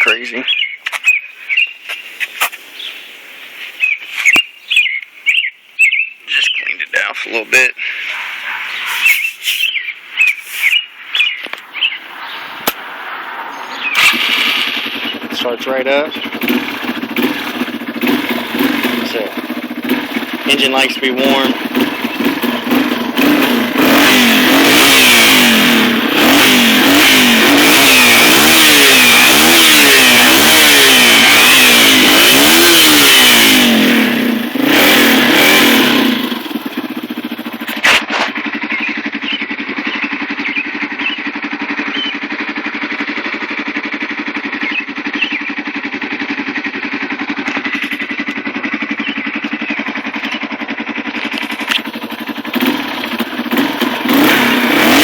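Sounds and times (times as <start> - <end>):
motorcycle engine revving and idling: 0.0 - 55.0.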